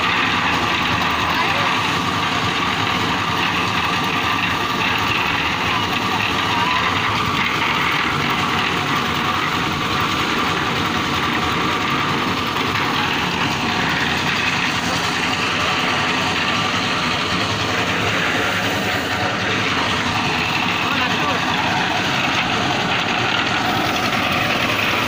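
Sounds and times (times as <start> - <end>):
concrete mixer engine running: 0.0 - 25.0.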